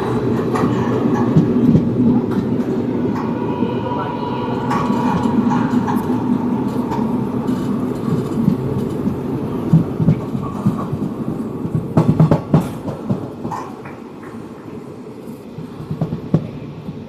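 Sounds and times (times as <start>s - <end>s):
passenger train rumbling: 0.0s - 17.0s
sharp train clacks: 0.0s - 17.0s.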